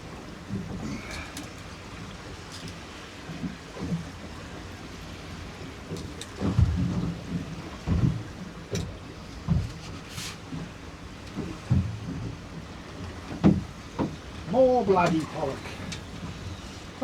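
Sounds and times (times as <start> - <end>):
waves slapping a boat hull: 0.0 - 17.0
wind and water rushing: 0.0 - 17.0.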